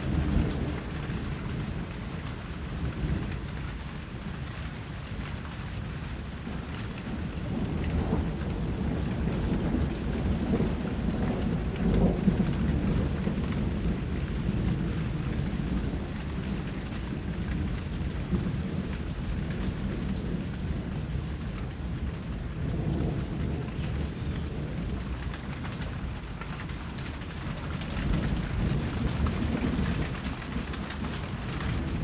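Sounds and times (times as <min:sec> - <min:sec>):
steady rain falling: 0:00.0 - 0:32.0
thunder rumbling: 0:00.0 - 0:32.0.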